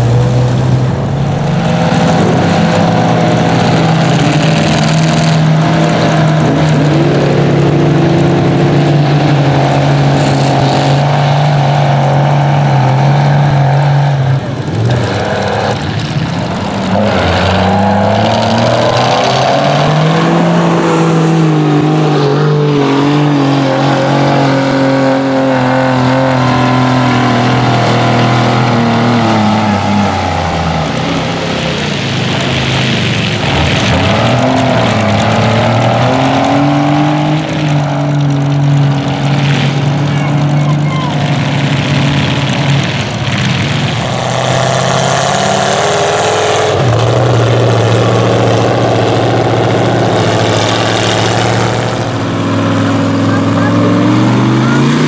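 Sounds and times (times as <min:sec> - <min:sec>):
truck churning through mud: 0:00.0 - 0:55.0
truck engine revving hard: 0:00.0 - 0:55.0.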